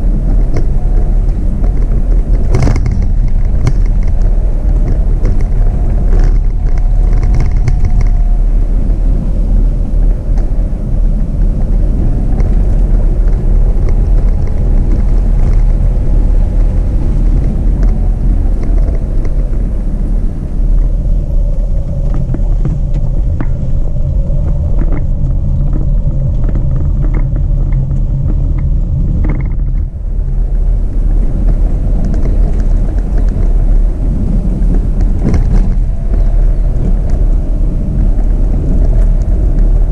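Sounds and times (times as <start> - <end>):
car engine hum: 0.0 - 39.9
road rumble: 0.0 - 39.9.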